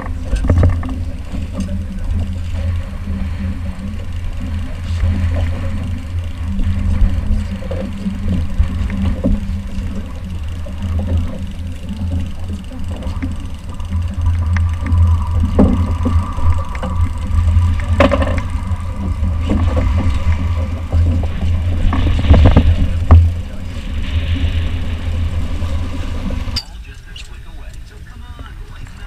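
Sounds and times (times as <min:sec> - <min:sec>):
wind on microphone: 0:00.0 - 0:26.6
outboard motor running: 0:00.0 - 0:29.0.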